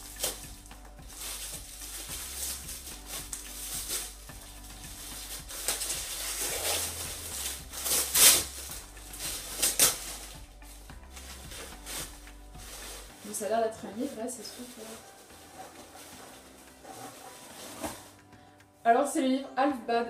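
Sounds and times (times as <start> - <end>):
plastic wrapping crinkling: 0.0 - 18.3.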